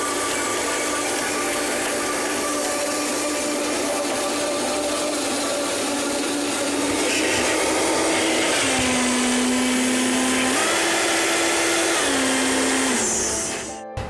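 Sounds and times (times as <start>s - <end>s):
blender motor running: 0.0s - 13.8s.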